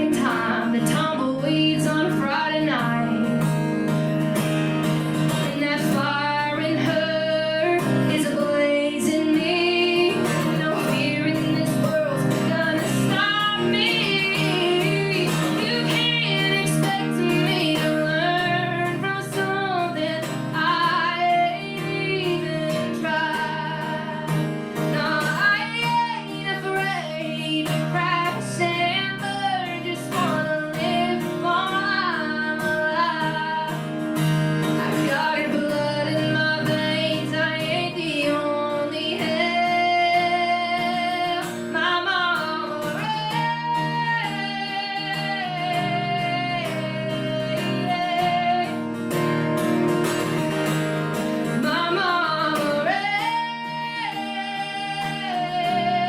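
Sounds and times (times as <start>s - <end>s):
acoustic guitar: 0.0s - 56.0s
woman singing: 0.0s - 56.0s.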